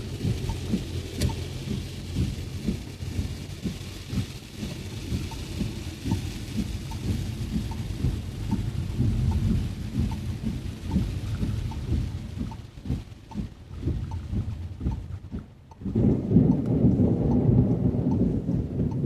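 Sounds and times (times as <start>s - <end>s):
car driving on a wet road: 0.0s - 19.0s
heavy rain drumming on a car: 0.0s - 19.0s
faint regular tick: 0.2s - 19.0s.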